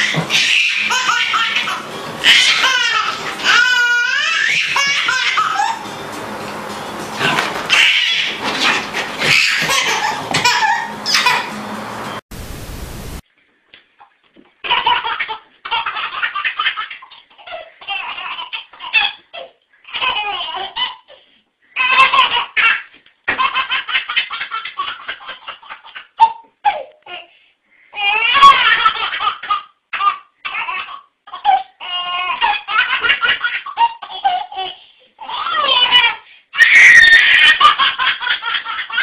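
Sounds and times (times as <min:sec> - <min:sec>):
baby laughing: 0:00.0 - 0:05.9, 0:07.2 - 0:11.6, 0:14.6 - 0:21.2, 0:21.8 - 0:27.3, 0:28.0 - 0:39.0.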